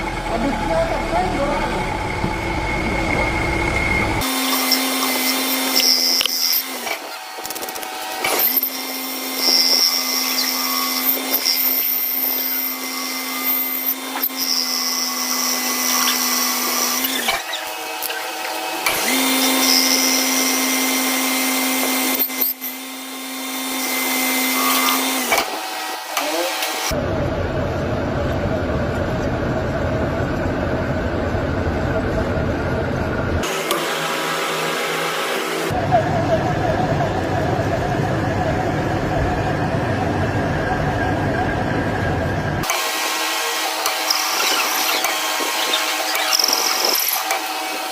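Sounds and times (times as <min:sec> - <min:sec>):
lathe turning metal: 0:00.0 - 0:27.0, 0:33.4 - 0:47.9.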